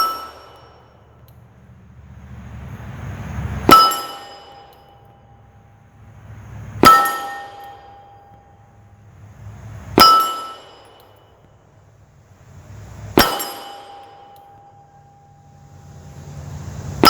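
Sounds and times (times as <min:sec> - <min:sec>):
metallic ringing: 0:00.0 - 0:01.6, 0:03.3 - 0:17.0.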